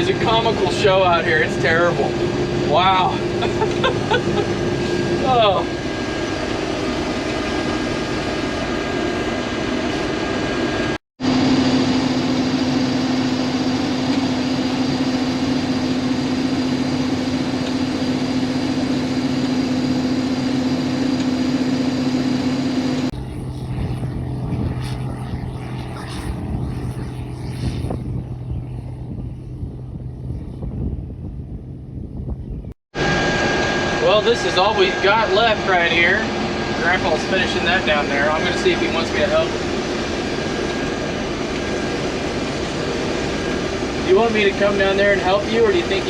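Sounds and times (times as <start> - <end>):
combine harvester droning: 0.0 - 46.0.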